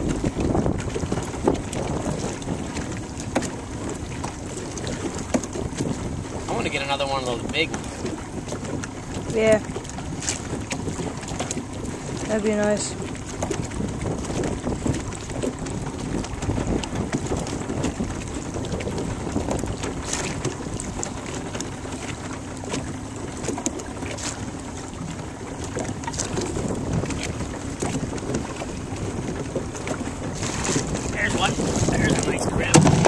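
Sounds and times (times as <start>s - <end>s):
water lapping against boat: 0.0s - 33.0s
wind buffeting microphone: 0.0s - 33.0s.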